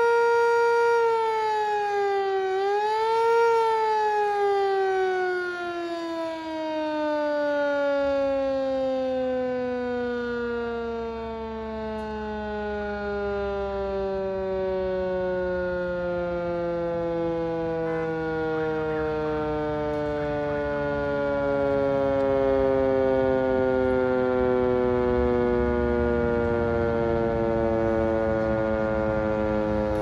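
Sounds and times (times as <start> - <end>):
fire siren wailing: 0.0 - 30.0.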